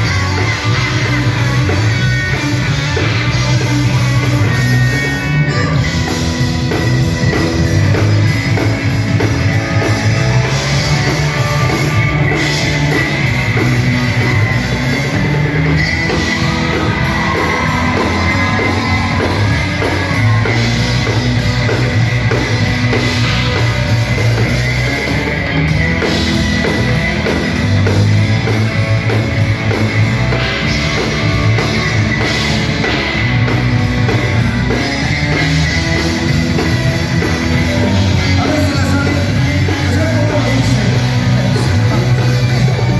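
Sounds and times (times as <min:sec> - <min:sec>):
drum kit beat: 0:00.0 - 0:42.9
electric guitar: 0:00.0 - 0:42.9.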